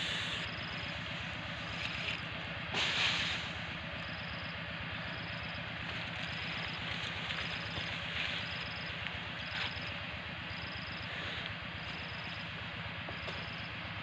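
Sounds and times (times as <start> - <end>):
low hum: 0.0 - 14.0
outdoor background hiss: 0.0 - 14.0.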